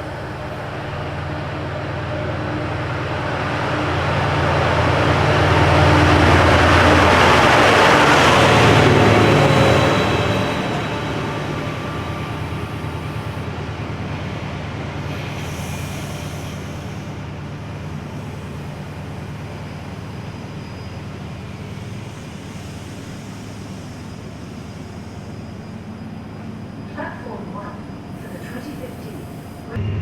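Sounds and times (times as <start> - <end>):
diesel train engine drone: 0.0 - 30.0
train rumbling: 0.0 - 30.0.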